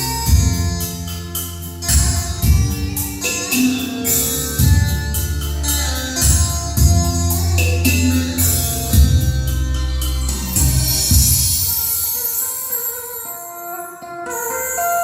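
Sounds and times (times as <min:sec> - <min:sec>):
song with heavy bass: 0:00.0 - 0:12.5.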